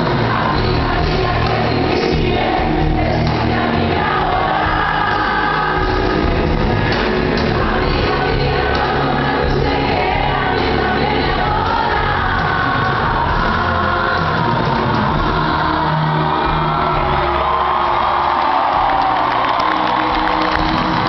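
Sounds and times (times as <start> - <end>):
woman singing: 0.0 - 17.2
live pop band: 0.0 - 21.0.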